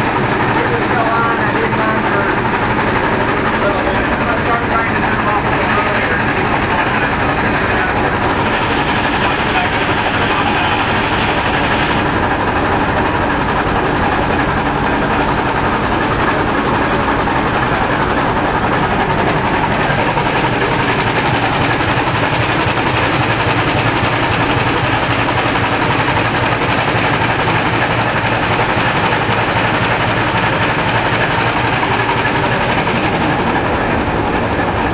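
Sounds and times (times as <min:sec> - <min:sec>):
boat engine idling: 0:00.0 - 0:34.9.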